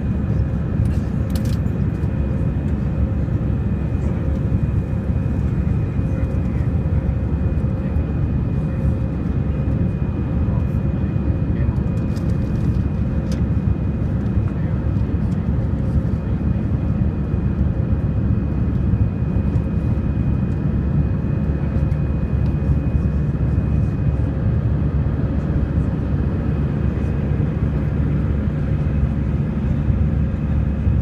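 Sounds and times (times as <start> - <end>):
faint high engine whine: 0.0 - 31.0
jet engine rumble in cabin: 0.0 - 31.0.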